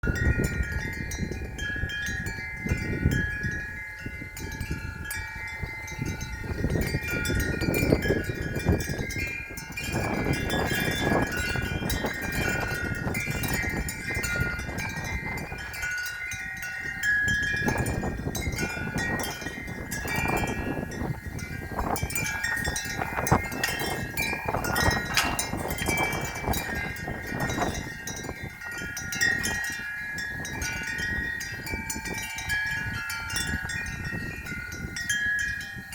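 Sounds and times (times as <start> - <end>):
wind chimes ringing: 0.0 - 35.9
wind rumbling on microphone: 0.0 - 35.9.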